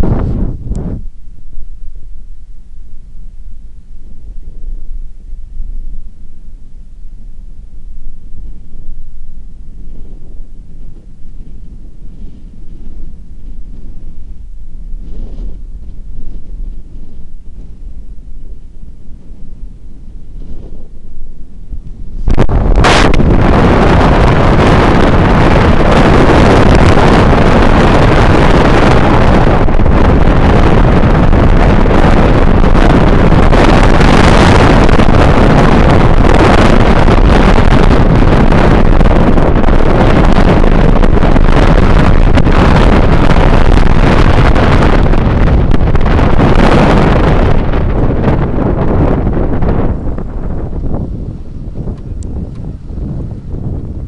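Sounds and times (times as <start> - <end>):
road rumble: 0.0 - 54.0
wind buffeting microphone: 0.0 - 54.0.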